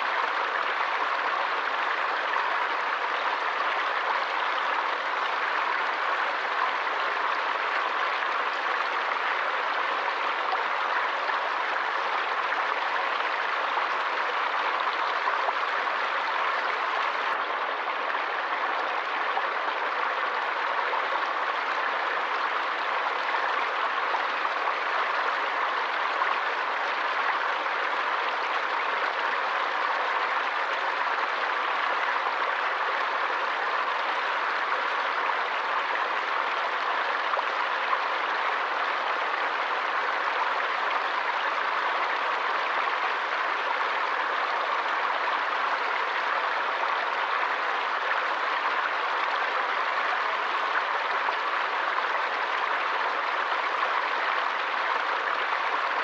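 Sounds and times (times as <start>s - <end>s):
forest stream rushing: 0.0s - 56.0s.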